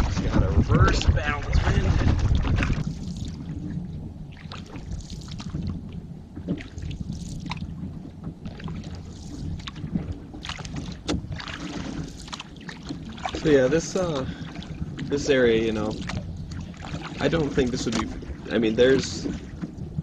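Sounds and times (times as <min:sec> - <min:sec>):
knocks and splashes around canoe: 0:00.0 - 0:20.0
steady low rumble: 0:00.0 - 0:20.0.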